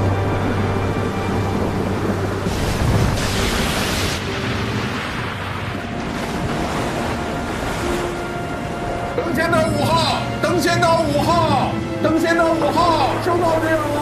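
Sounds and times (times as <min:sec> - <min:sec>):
steady low drone: 0:00.0 - 0:14.0
waves crashing against boat: 0:00.4 - 0:14.0.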